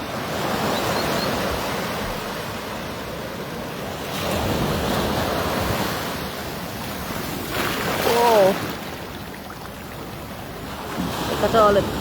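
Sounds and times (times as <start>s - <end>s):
waves washing on beach: 0.0s - 12.0s.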